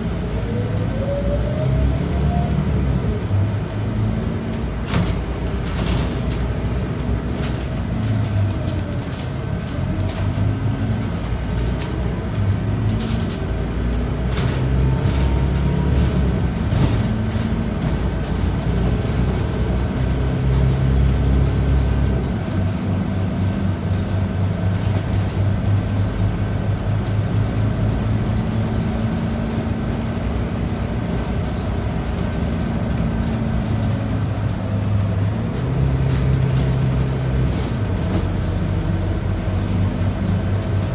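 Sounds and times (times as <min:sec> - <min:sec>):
bus diesel engine accelerating: 0:00.0 - 0:40.9.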